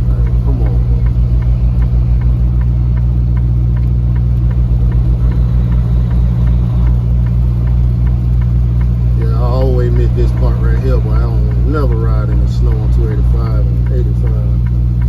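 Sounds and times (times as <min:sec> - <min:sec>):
faint regular ticking: 0:00.0 - 0:15.0
truck engine low drone: 0:00.0 - 0:15.0.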